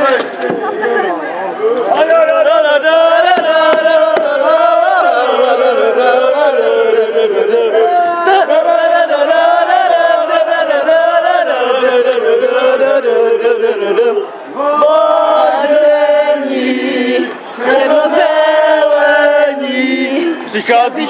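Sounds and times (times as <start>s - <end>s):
football supporters chanting: 1.9s - 21.0s.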